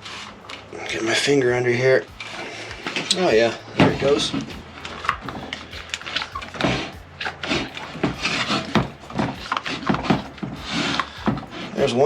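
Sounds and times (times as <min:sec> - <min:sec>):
rubber scraping on metal rim: 0:00.0 - 0:12.0.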